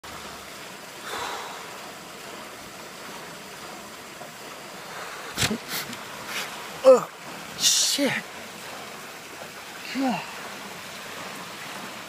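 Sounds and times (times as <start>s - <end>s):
pool waterfall rushing: 0.0s - 12.0s.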